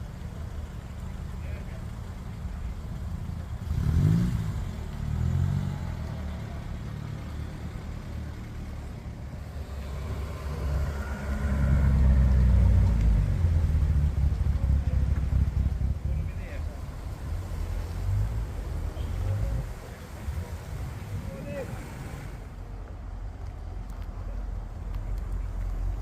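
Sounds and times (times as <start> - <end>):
car engine revving: 0.0 - 22.6.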